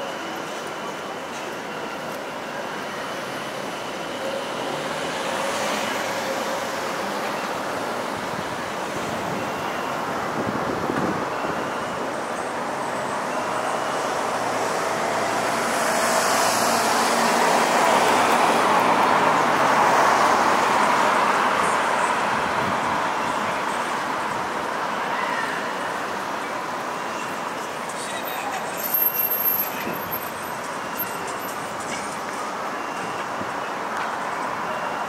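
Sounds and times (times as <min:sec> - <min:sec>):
city street traffic hum: 0:00.0 - 0:35.0.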